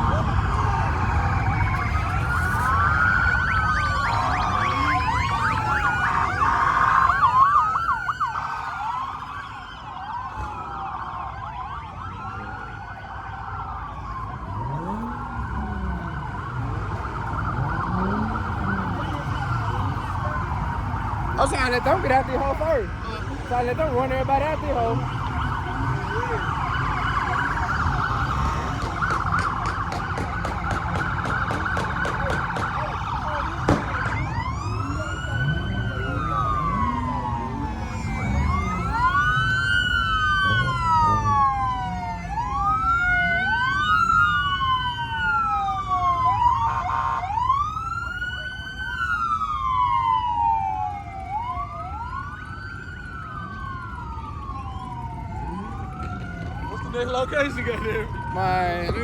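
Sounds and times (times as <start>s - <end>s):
police sirens: 0.0s - 59.0s
vehicle engine rumble: 0.0s - 59.0s.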